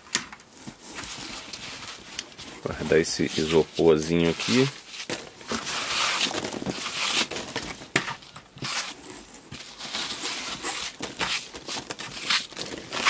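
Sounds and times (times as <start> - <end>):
foam packing peanuts rustling: 0.5 - 13.0.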